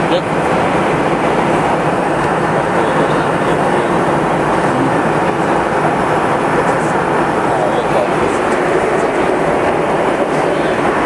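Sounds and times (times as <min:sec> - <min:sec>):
airplane cabin engine rush: 0:00.0 - 0:11.0.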